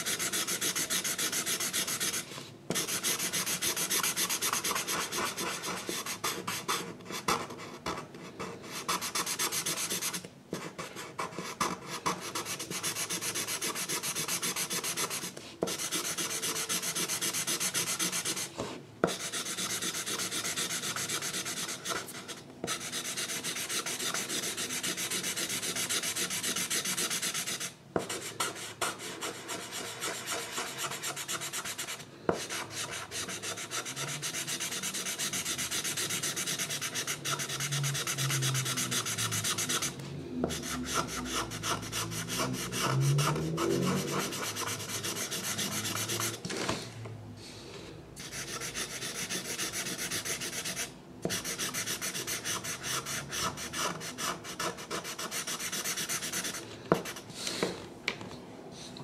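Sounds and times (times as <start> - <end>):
drawing tool scratching paper: 0.0 - 39.9, 40.5 - 46.4, 48.2 - 57.2.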